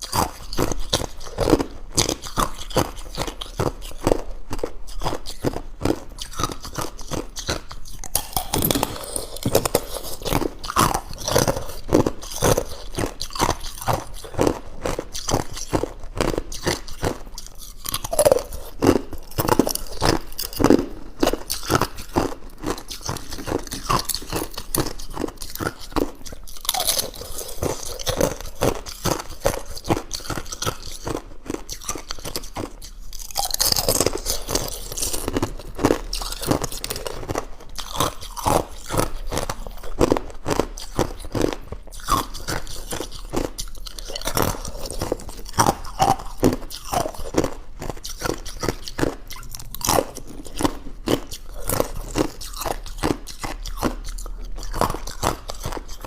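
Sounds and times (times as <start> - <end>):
ice crunching being chewed: 0.0 - 56.0.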